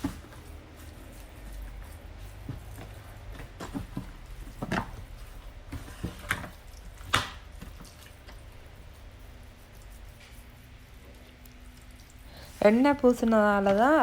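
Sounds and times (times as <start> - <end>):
hands mixing meat in marinade: 0.0 - 14.0.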